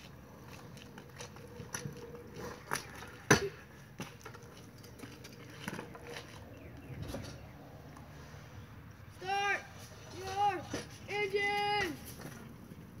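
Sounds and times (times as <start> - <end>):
scooter wheels rolling on concrete: 0.0 - 13.0.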